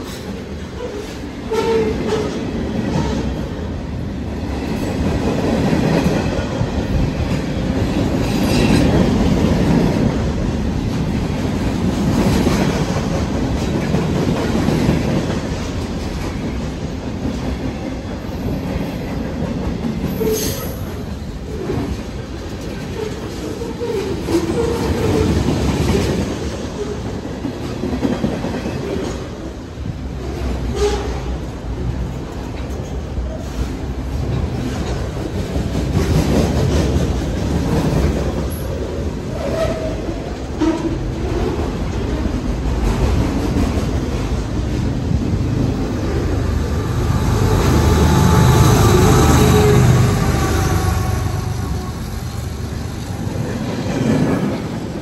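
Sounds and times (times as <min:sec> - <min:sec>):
freight train cars rumbling past: 0:00.0 - 0:55.0.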